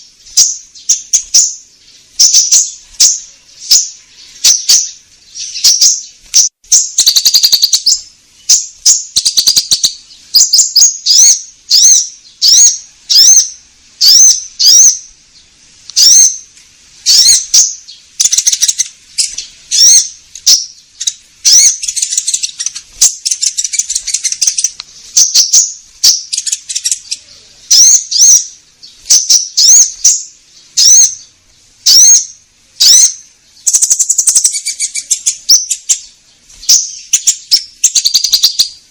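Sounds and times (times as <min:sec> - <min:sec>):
bird rapid chattering notes: 0:00.0 - 0:15.1, 0:17.1 - 0:38.8
bird whistled calls: 0:02.2 - 0:15.1, 0:16.0 - 0:38.8.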